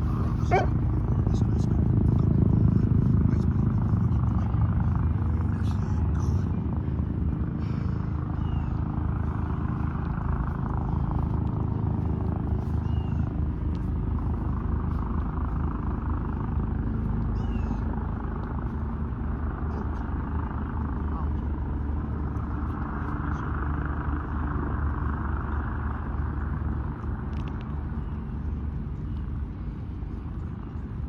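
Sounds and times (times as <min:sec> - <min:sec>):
low engine-like drone: 0:00.0 - 0:31.0.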